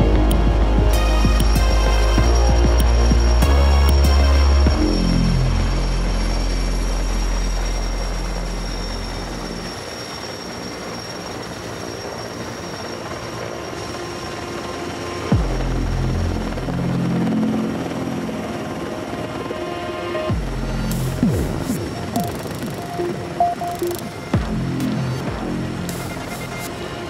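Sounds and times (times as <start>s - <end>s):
background music: 0.0s - 9.4s, 14.2s - 27.0s
helicopter rotor and turbine: 0.0s - 27.0s.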